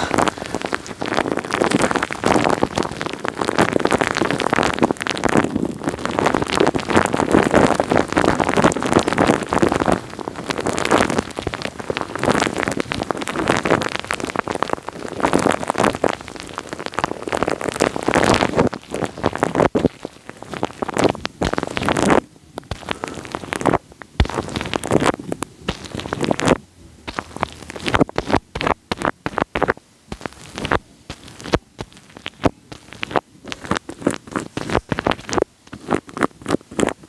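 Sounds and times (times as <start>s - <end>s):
wet material squished on microphone: 0.0s - 37.0s.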